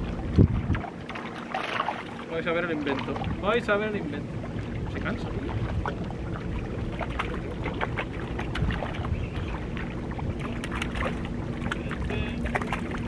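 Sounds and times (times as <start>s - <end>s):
wind on microphone: 0.0s - 1.9s, 2.9s - 13.0s
faint steady hum: 0.0s - 13.0s
waves lapping against rocks: 0.0s - 13.0s.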